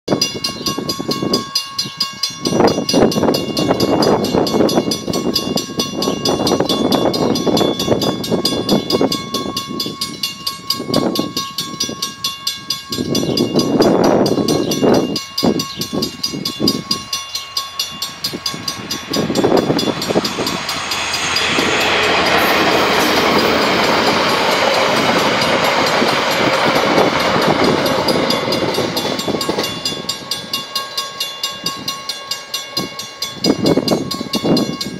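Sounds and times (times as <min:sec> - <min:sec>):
passenger train passing: 0:00.1 - 0:34.9
level-crossing bells ringing: 0:00.2 - 0:34.9.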